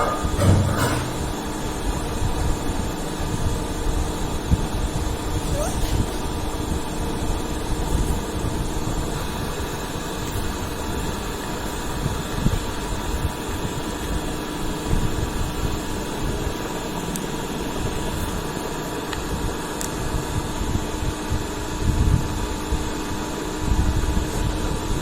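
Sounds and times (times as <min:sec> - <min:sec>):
fan whirring: 0:00.0 - 0:25.0.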